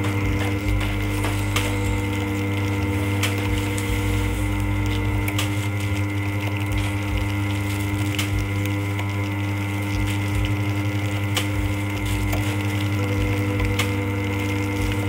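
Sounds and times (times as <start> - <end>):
band sealer motor humming: 0.0 - 15.0.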